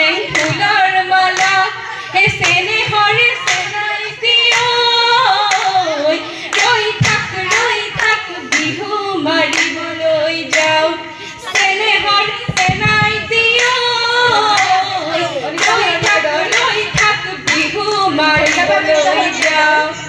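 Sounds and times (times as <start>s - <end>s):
rhythmic hand claps: 0.0s - 20.0s
women singing folk song: 0.0s - 20.0s.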